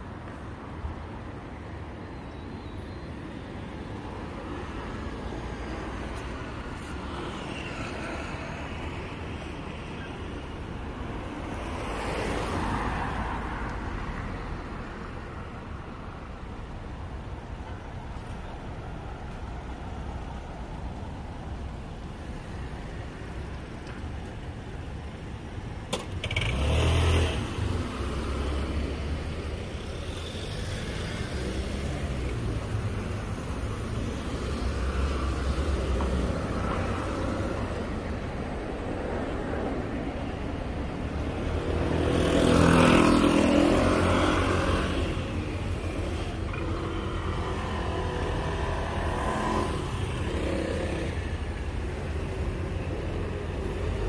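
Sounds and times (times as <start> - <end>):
road noise rumble: 0.0 - 54.0
vehicles passing: 0.0 - 54.0.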